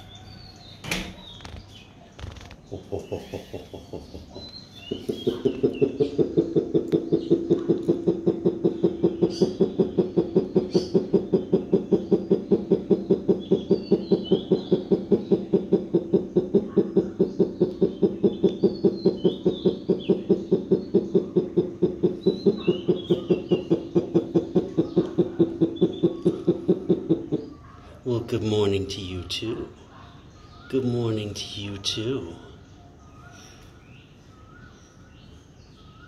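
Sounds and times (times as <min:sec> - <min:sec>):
owl hooting rapidly: 0:03.1 - 0:32.6.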